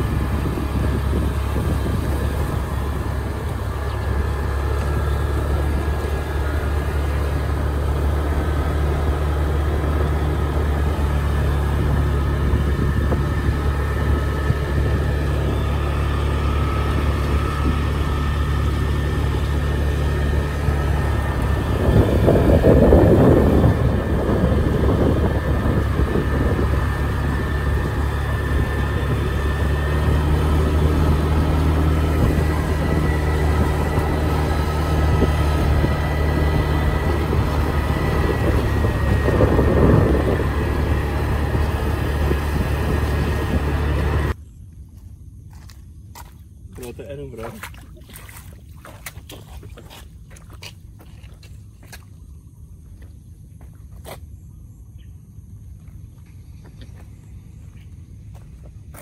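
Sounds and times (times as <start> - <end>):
road noise: 0.0 - 59.0
vehicle engine humming: 0.0 - 59.0.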